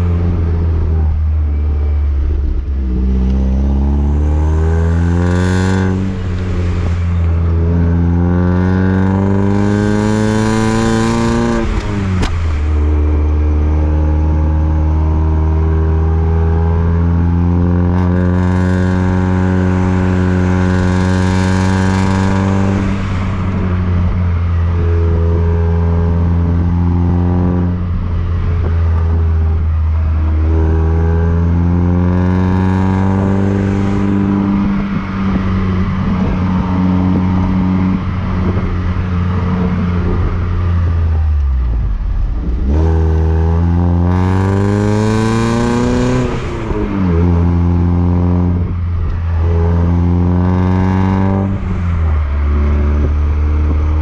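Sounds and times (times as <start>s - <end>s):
car exhaust revving: 0.0s - 54.0s.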